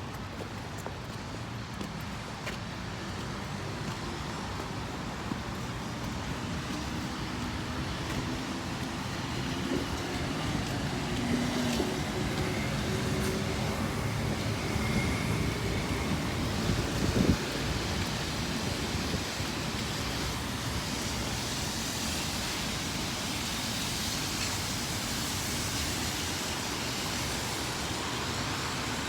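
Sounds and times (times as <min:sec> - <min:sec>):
cars and buses passing: 0:00.0 - 0:29.0.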